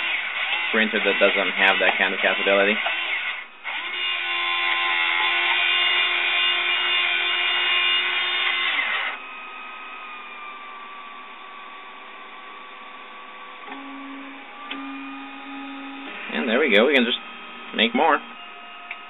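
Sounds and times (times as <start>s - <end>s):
small motor whining: 0.0s - 19.0s.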